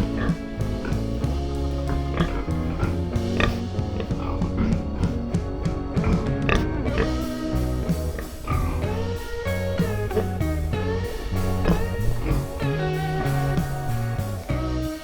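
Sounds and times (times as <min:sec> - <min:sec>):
bass line: 0:00.0 - 0:15.0
guitar: 0:00.0 - 0:15.0.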